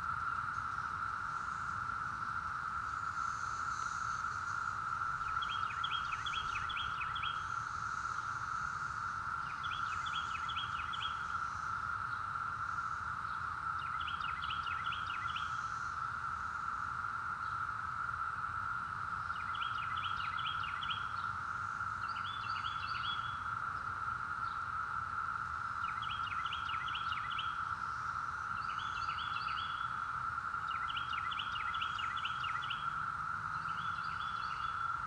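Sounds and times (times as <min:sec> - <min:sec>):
cicadas droning: 0:00.0 - 0:35.0.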